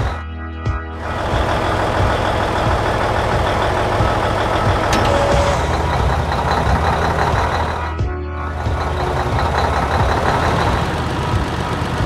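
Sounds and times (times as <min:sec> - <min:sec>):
combine harvester engine humming: 0:01.0 - 0:12.0.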